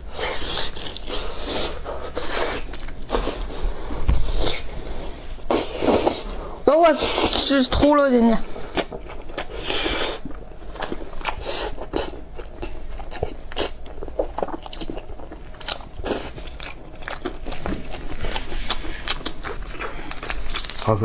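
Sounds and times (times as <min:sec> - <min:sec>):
person chewing meat: 0:00.0 - 0:07.6, 0:08.4 - 0:21.0.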